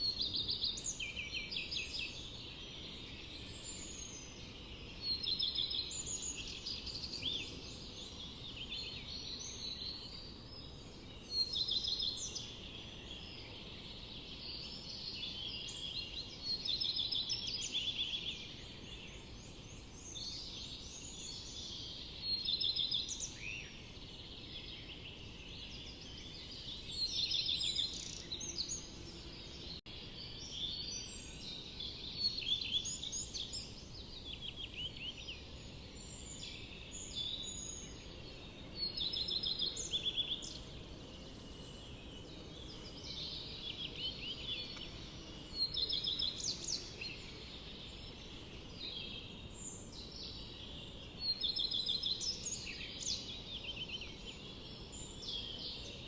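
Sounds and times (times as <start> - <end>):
low background hiss: 0.0 - 56.0
songbirds trilling and chirping: 0.0 - 56.0.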